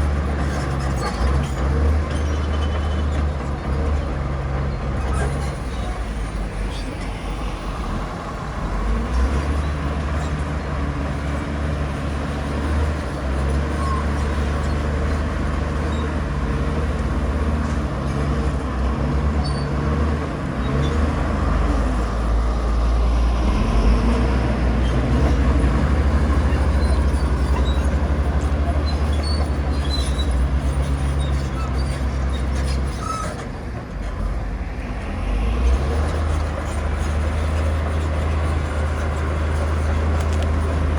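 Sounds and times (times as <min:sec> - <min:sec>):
heavy diesel machinery rumbling: 0:00.0 - 0:40.9.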